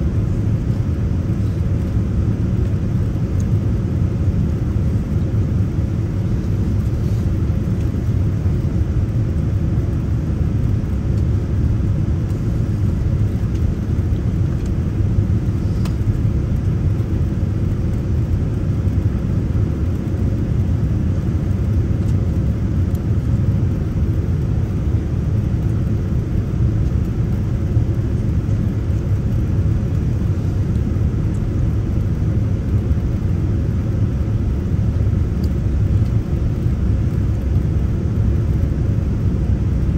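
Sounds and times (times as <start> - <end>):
airliner engine rumble in cabin: 0.0 - 39.9.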